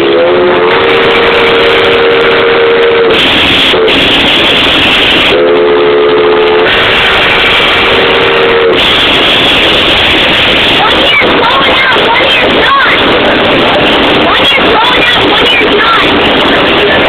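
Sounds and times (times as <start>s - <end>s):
steam hissing: 0.0s - 5.5s, 6.6s - 17.0s
steam locomotive whistle: 0.0s - 17.0s.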